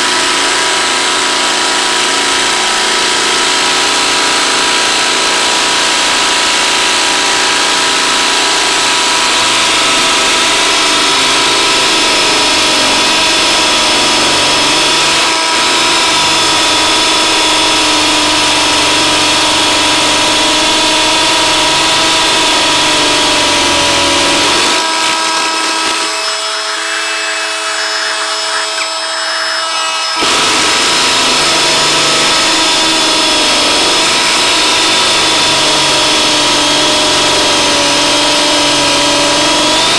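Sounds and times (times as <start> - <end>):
drill motor whine: 0.0 - 39.9
hammer drill grinding into concrete: 0.0 - 39.9.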